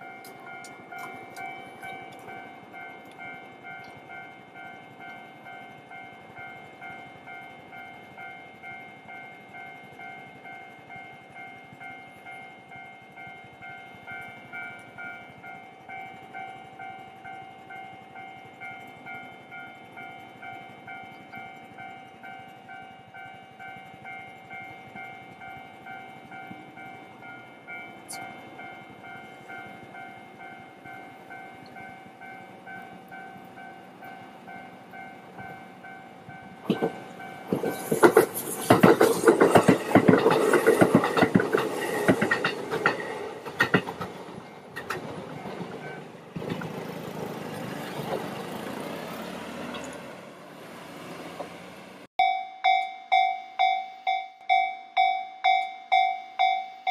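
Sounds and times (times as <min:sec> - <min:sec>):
level-crossing alarm bell ringing: 0:00.0 - 0:46.2, 0:52.1 - 0:56.9
train wheel clatter: 0:00.0 - 0:50.2.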